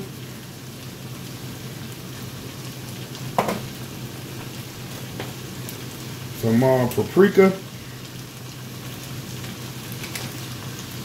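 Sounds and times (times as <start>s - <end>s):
vegetables sizzling in skillet: 0.0s - 11.0s.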